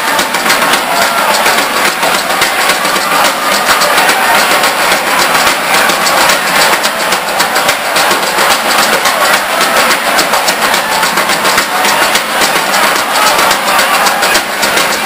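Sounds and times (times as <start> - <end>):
drum hits: 0.0 - 15.0.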